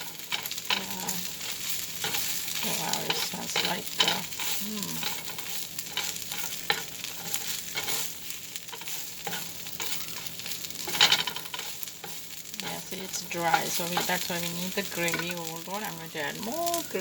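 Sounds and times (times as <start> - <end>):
food sizzling on a griddle: 0.0 - 17.0
metal scraping on a griddle: 0.0 - 17.0.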